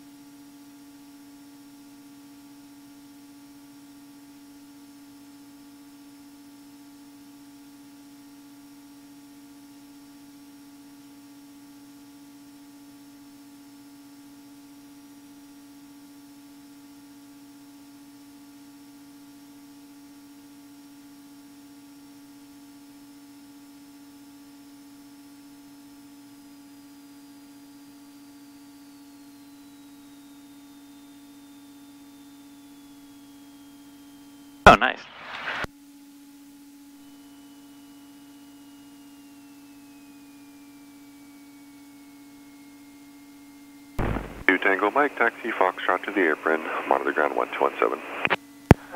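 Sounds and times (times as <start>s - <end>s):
faint high whine: 0.0s - 48.9s
low cockpit hum with hiss: 0.0s - 48.9s.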